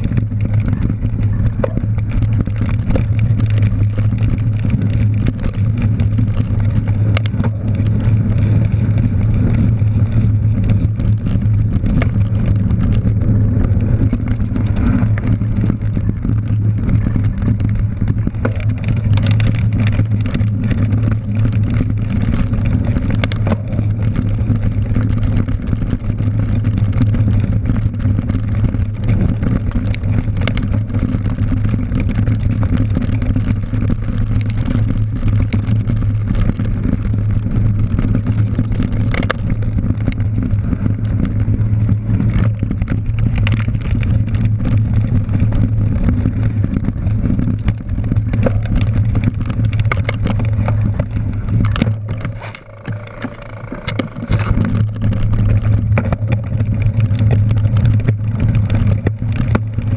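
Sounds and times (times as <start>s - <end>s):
bike rattling over bumps: 0.0s - 59.9s
wind and tyre rumble: 0.0s - 59.9s.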